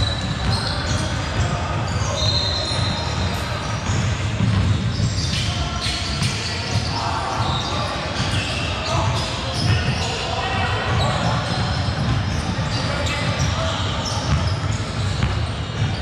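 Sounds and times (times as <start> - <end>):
basketball bouncing on gym court: 0.0 - 8.4, 10.8 - 16.0
sneaker squeaks: 0.0 - 16.0.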